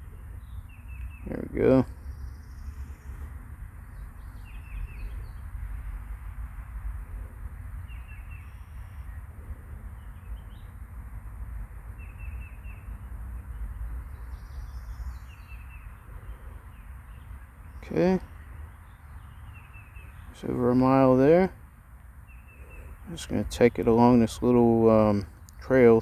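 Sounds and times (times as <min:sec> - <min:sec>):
small birds chirping: 0:00.0 - 0:10.8, 0:11.8 - 0:26.0.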